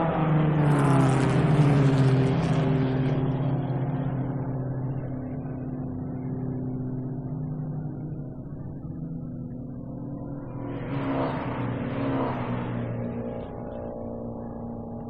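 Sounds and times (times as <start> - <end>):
racing car engine passing: 0.0 - 15.0.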